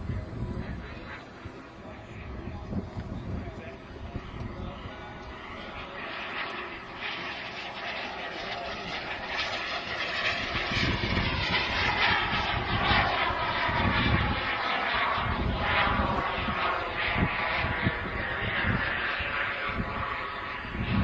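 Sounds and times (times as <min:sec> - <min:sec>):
model jet turbine whine: 0:00.0 - 0:21.0.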